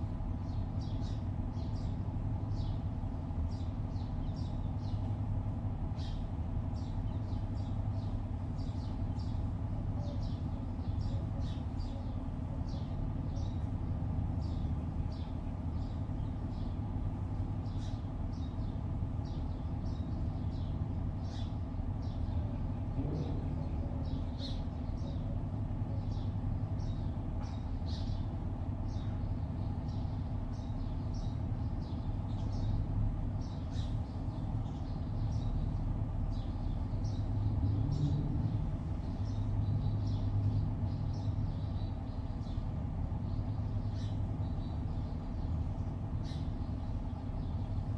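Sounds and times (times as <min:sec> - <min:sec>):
distant city traffic hum: 0:00.0 - 0:47.9
small birds chirping: 0:00.0 - 0:47.9.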